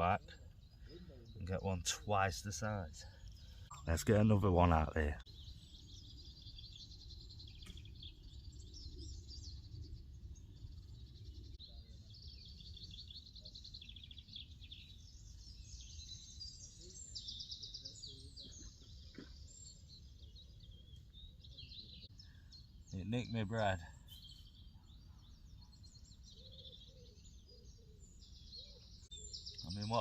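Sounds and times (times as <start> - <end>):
songbirds chirping and singing: 0.0 - 30.0.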